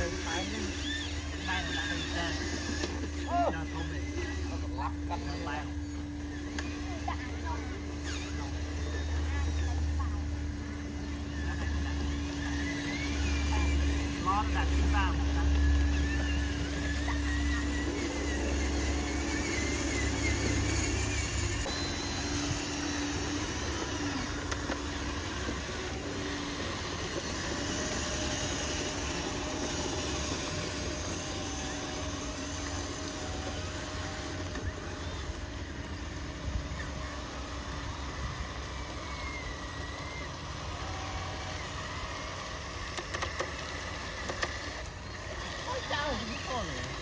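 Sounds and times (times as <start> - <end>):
small electric motor whine: 0.0 - 47.0.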